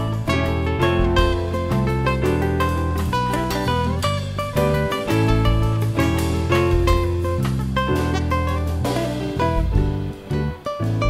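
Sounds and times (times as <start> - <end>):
fingerstyle nylon-string guitar: 0.0 - 11.0.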